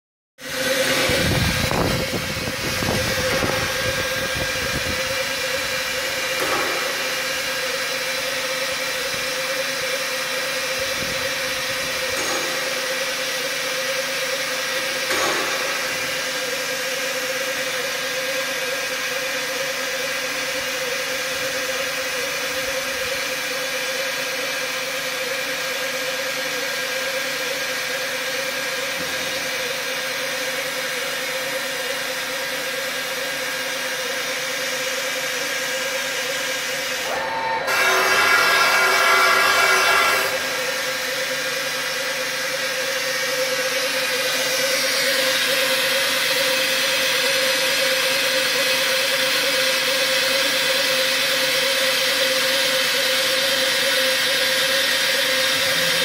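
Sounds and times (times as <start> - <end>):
slitting machine humming and whining: 0.4 - 56.0.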